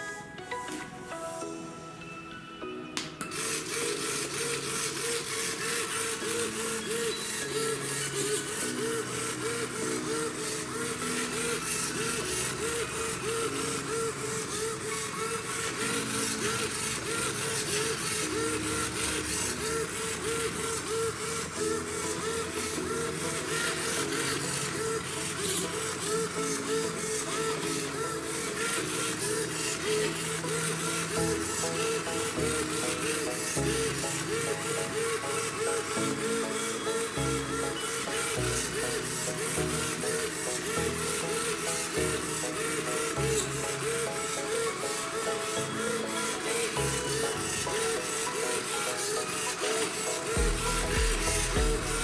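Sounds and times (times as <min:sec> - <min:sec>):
small electric motor whirring: 0:03.2 - 0:52.0.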